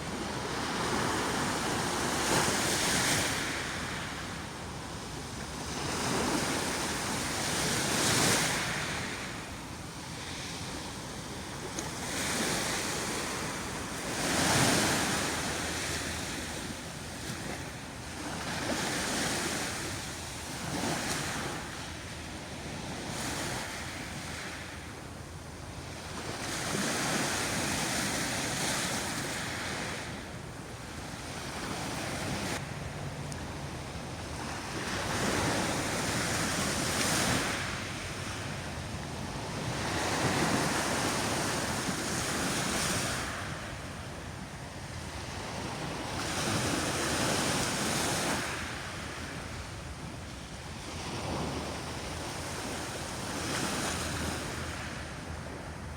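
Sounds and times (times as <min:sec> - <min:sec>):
sea waves washing ashore: 0:00.0 - 0:55.9.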